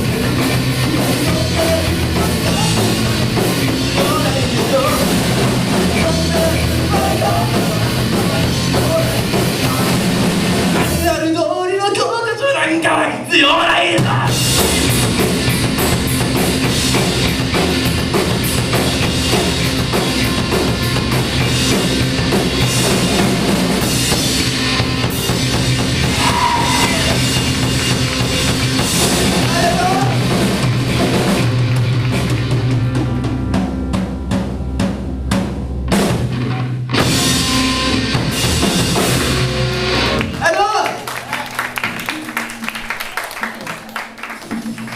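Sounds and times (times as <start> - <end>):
rock band playing: 0.0 - 11.5, 13.2 - 44.9
loud drum kit: 0.0 - 12.0, 12.8 - 44.9.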